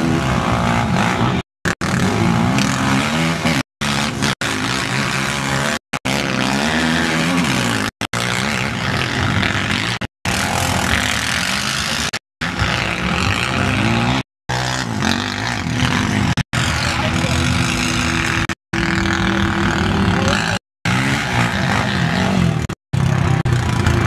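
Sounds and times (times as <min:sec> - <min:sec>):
quad engines revving: 0:00.0 - 0:24.0.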